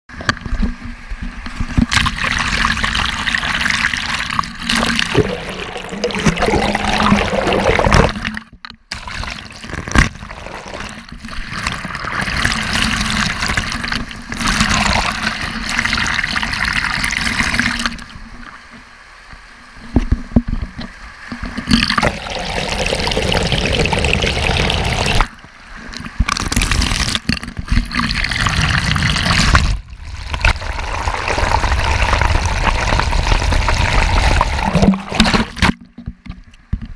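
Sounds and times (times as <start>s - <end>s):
waterfall pouring and splashing: 1.7s - 18.2s, 21.4s - 25.4s, 26.2s - 35.7s.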